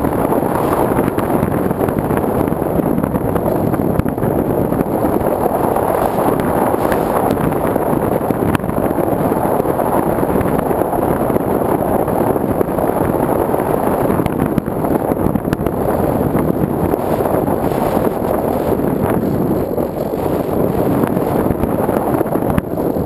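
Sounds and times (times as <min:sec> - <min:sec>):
electric motor and propeller: 0:00.0 - 0:23.0.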